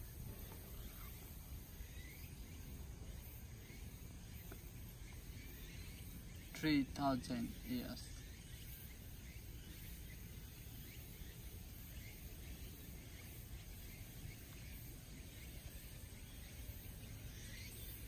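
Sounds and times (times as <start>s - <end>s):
faint high chirps: 0.0s - 18.0s.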